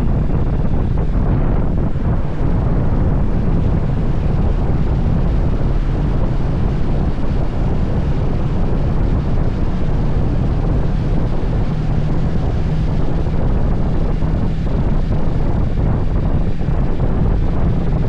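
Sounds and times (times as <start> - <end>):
low rumble: 0.0 - 18.0
wind buffeting microphone: 0.0 - 18.0.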